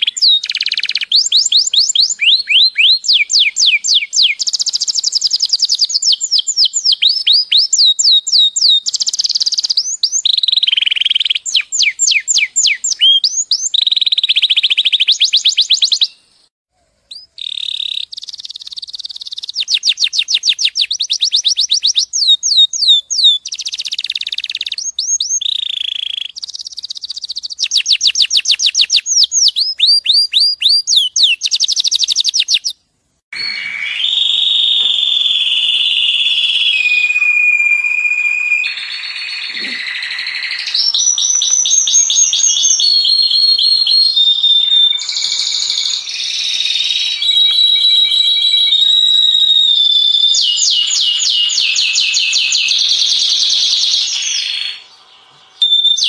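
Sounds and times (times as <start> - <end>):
canary singing trills: 0.0 - 32.8, 33.4 - 56.0.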